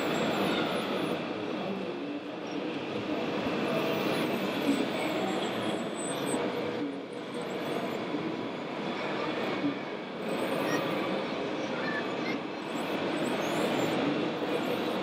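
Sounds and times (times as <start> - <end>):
crowd noise: 0.0 - 15.0
machinery: 0.0 - 15.0.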